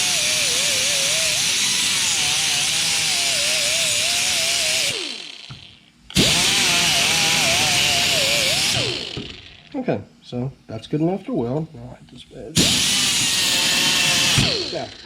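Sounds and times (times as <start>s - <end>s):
power grinder grinding metal: 0.0s - 9.7s, 12.6s - 15.0s.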